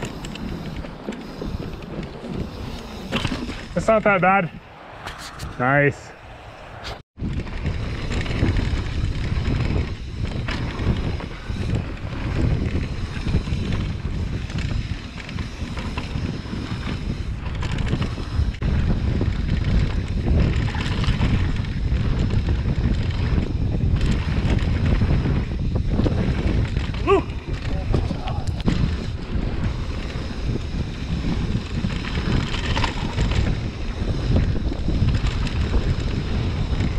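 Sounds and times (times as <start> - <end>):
bike tyres rumbling over dirt: 0.0 - 5.0, 7.2 - 36.9
wind buffeting microphone: 0.0 - 36.9.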